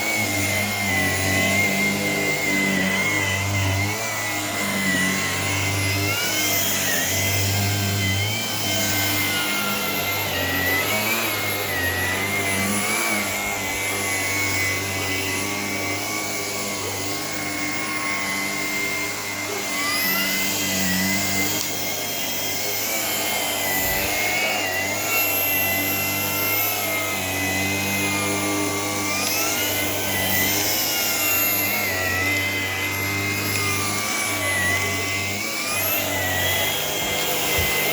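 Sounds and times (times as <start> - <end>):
cordless vacuum motor whine: 0.0 - 37.9.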